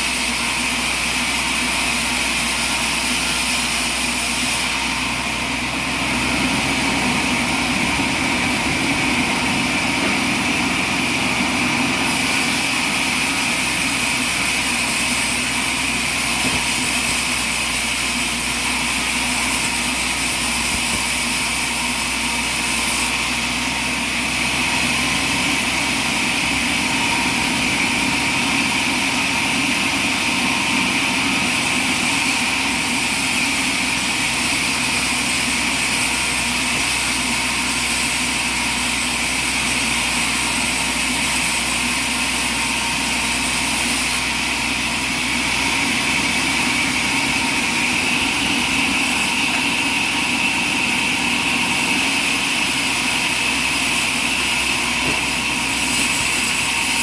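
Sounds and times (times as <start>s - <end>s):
sawmill drone and whine: 0.0s - 57.0s.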